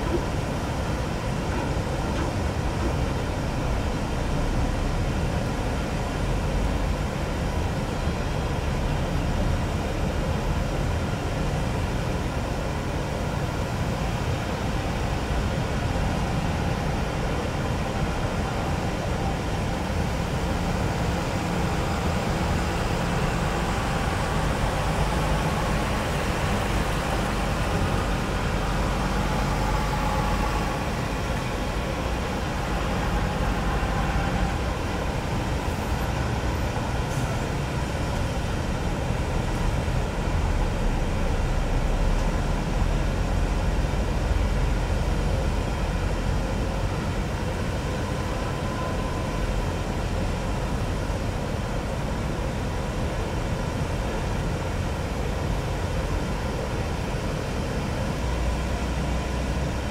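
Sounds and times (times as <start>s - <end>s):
jet engine rumble with whine: 0.0s - 59.9s.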